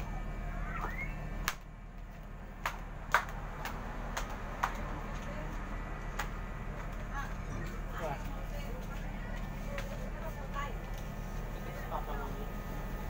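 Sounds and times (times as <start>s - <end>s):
ferry engine hum: 0.0s - 13.0s.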